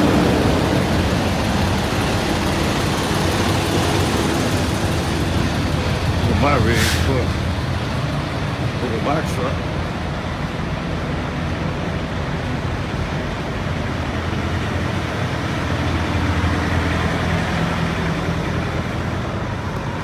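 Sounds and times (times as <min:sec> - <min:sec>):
diesel truck engine running: 0:00.0 - 0:20.0
road noise: 0:00.0 - 0:20.0.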